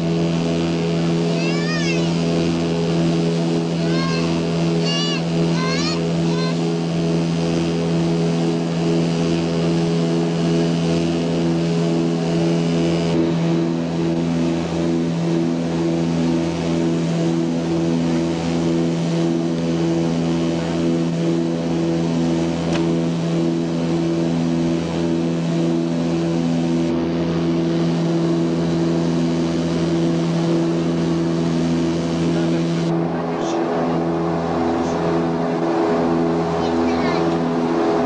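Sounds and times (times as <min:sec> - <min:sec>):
turboprop engines droning in cabin: 0:00.0 - 0:38.0.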